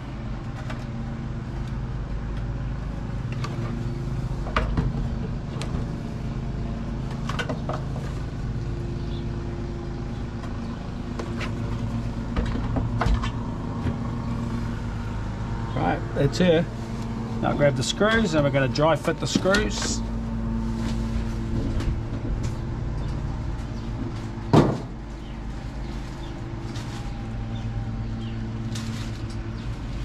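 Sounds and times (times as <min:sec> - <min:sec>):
engine hum: 0:00.0 - 0:30.0.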